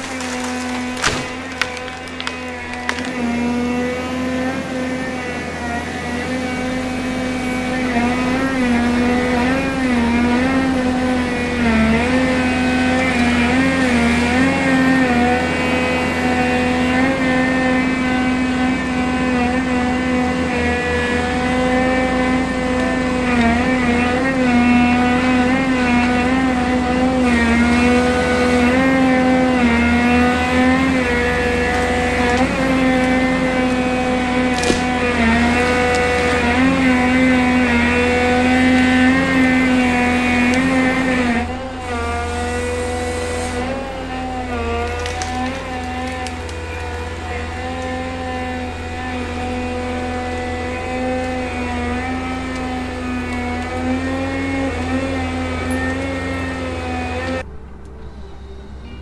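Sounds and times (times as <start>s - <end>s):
heavy machine engine under load: 0.0s - 59.0s.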